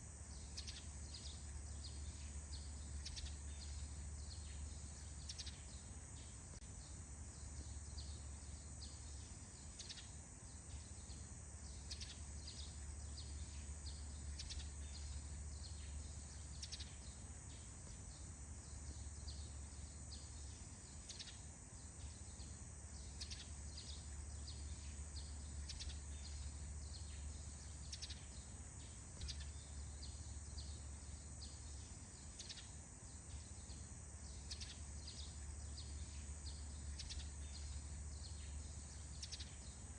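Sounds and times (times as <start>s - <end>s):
bird chirps: 0.3s - 39.9s.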